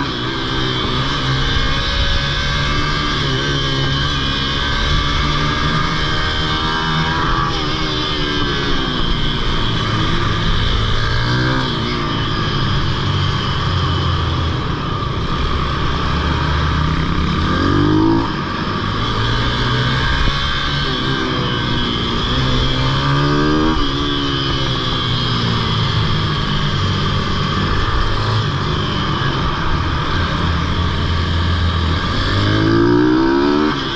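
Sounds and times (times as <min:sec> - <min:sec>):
small motorbike engine revving: 0:00.0 - 0:33.9.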